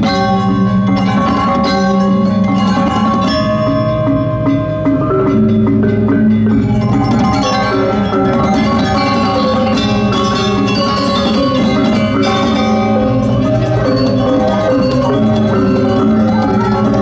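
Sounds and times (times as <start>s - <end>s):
gamelan metallophones struck: 0.0s - 17.0s.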